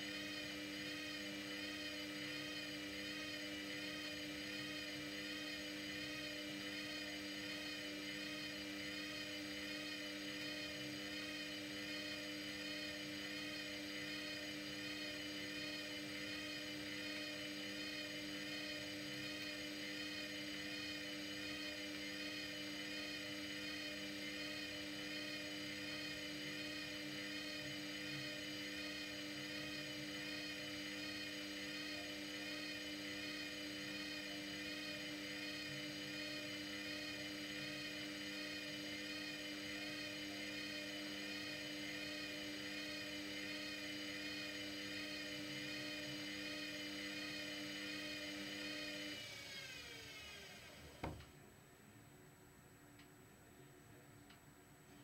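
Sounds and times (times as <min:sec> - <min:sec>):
washer-dryer motor whirring: 0:00.0 - 0:51.4.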